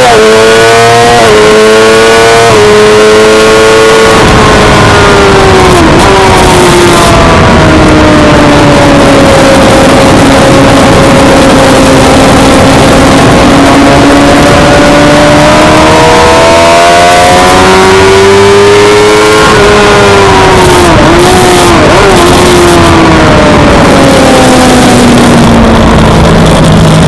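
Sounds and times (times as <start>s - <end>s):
motorcycle engine at high revs: 0.0s - 27.0s
wind rush: 2.5s - 16.6s, 17.2s - 27.0s.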